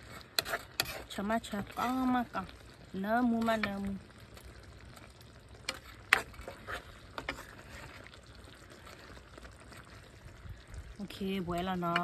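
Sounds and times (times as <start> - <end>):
ladle stirring thick sauce: 0.0 - 12.0.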